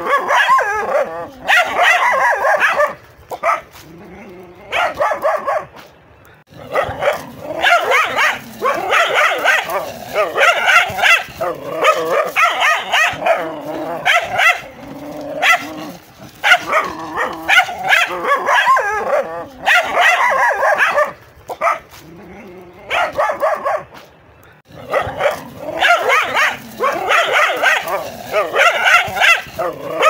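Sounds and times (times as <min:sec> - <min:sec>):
dogs barking and snarling: 0:00.0 - 0:30.0.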